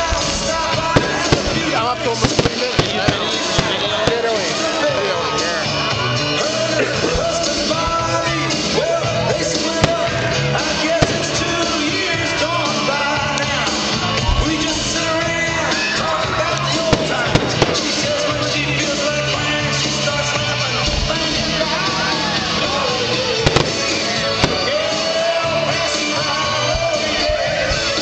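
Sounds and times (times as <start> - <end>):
firework bangs: 0.0 - 5.4, 7.0 - 28.0
music with singing voice: 0.0 - 28.0.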